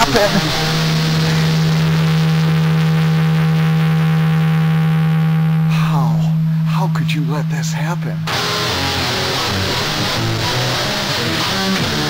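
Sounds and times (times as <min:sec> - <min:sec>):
electric guitar sustained low note: 0:00.0 - 0:12.0.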